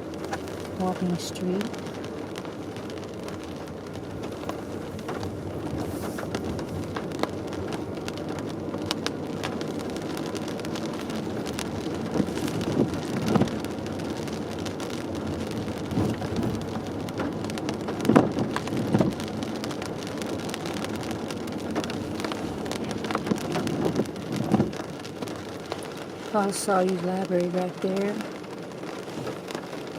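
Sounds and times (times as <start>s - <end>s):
car driving on wet pavement: 0.0s - 29.9s
rain on car roof: 0.0s - 29.9s.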